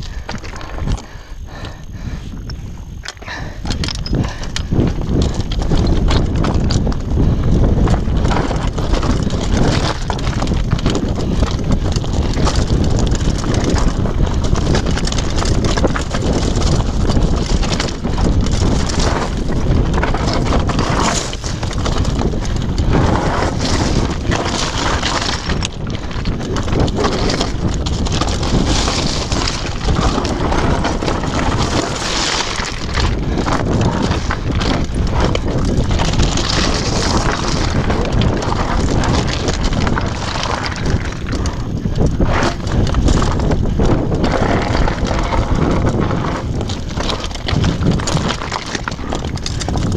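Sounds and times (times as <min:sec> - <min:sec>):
tyres crunching over stones: 0:00.0 - 0:01.8, 0:02.8 - 0:49.9
wind rumbling on microphone: 0:00.0 - 0:49.9
bike frame rattling: 0:02.5 - 0:49.9.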